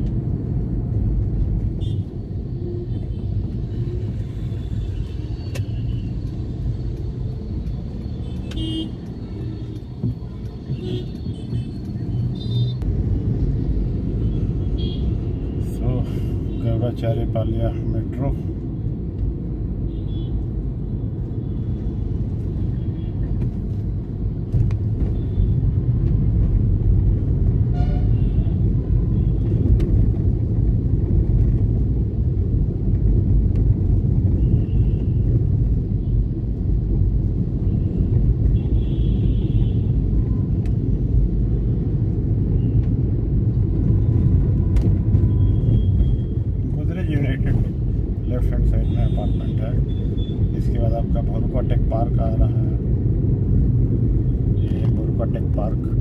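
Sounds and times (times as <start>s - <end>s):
vehicle rumbling on road: 0.0s - 56.0s.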